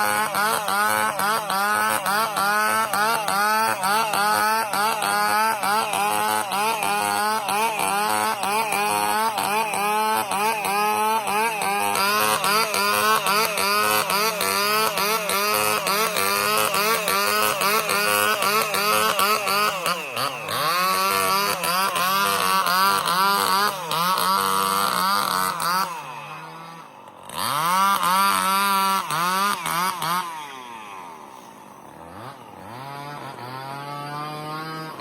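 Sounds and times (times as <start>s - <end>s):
chainsaw running hard: 0.0s - 35.0s.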